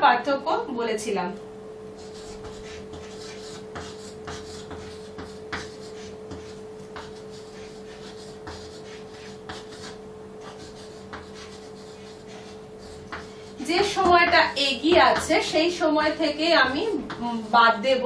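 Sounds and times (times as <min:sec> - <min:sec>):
chalk scratching on blackboard: 0:02.0 - 0:17.7.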